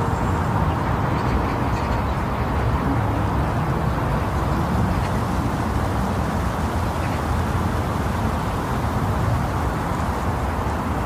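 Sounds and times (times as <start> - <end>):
wind blowing steadily: 0.0 - 11.0.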